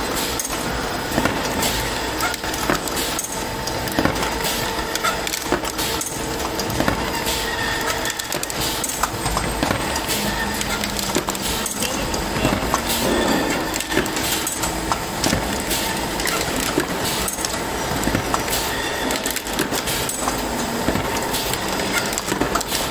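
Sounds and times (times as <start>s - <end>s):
machine hum: 0.0s - 22.9s.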